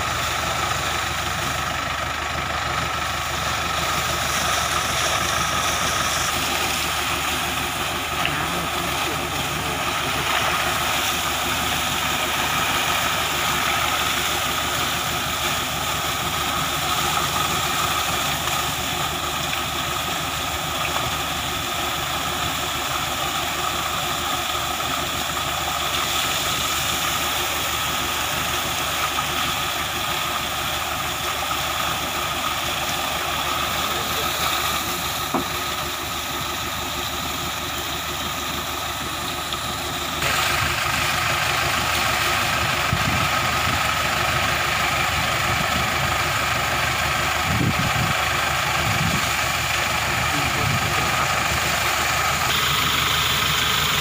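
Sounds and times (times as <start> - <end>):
engine idling: 0.0 - 54.0
water jet splashing: 3.2 - 54.0.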